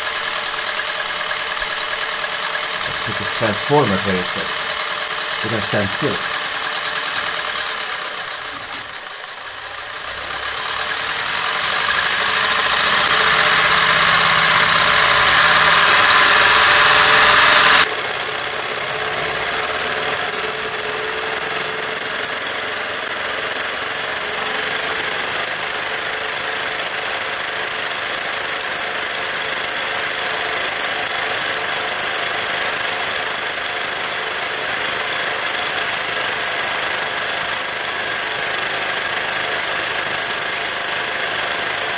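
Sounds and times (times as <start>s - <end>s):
sewing machine motor running: 0.0s - 41.9s.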